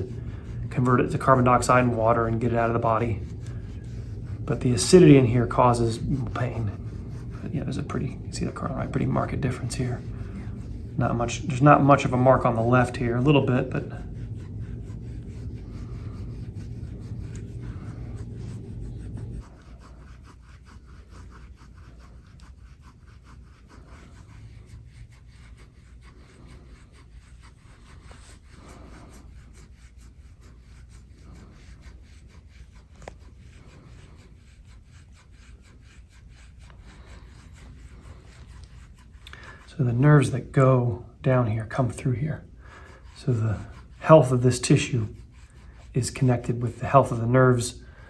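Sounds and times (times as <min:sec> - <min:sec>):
tool scraping oiled skin: 0:00.0 - 0:47.8
low steady hum: 0:00.0 - 0:48.0.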